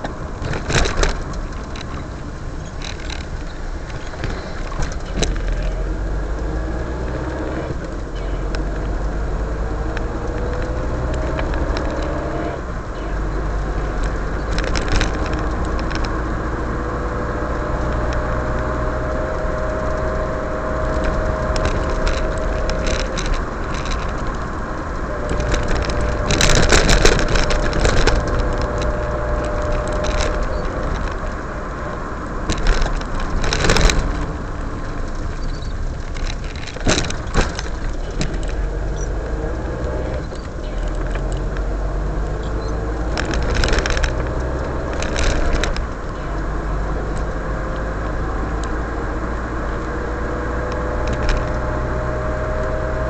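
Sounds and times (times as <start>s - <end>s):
car engine: 0.0s - 53.0s
rattles and knocks over bumps: 0.0s - 53.0s
tyres on wet pavement: 0.0s - 53.0s.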